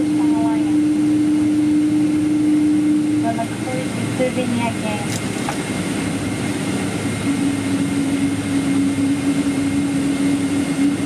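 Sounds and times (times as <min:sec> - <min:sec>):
jet engines rushing hum: 0:00.0 - 0:11.0
steady low drone: 0:00.0 - 0:11.0.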